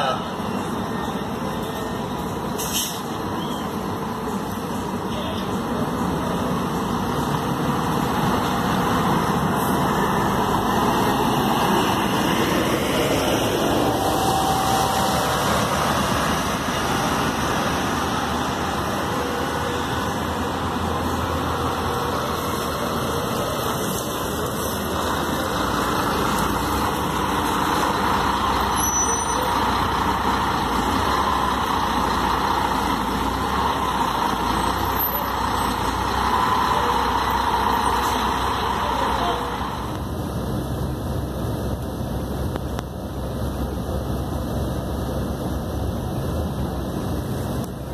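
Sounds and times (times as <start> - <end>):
coach diesel engine running: 0.0 - 47.9.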